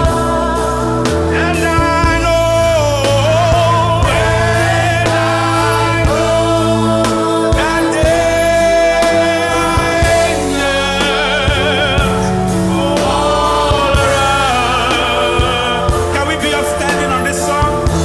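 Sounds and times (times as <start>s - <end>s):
band playing gospel music: 0.0s - 18.0s.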